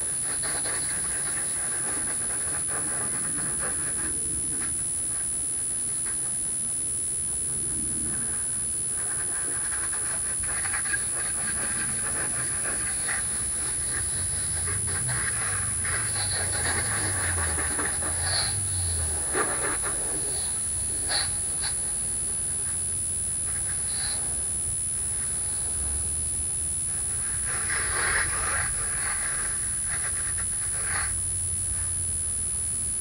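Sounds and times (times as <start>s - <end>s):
constant high-pitched whine: 0.0s - 33.0s.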